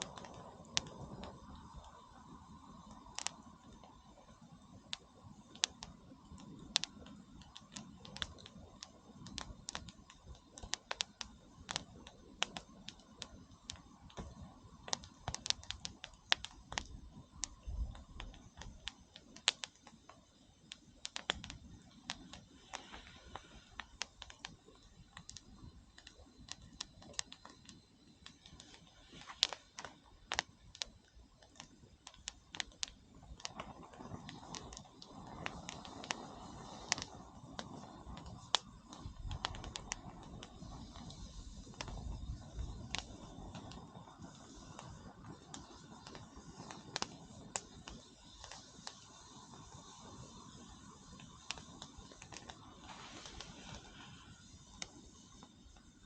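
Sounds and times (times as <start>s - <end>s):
campfire crackling and popping: 0.0s - 56.0s
faint low hiss: 0.0s - 56.0s.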